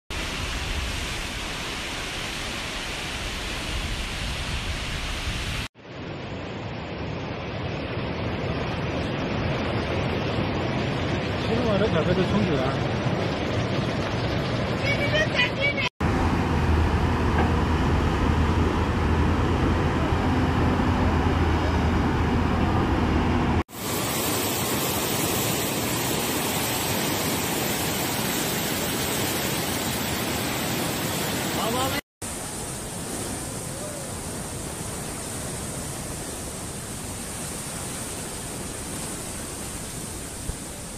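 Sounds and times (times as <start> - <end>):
river torrent rushing: 0.1 - 40.9.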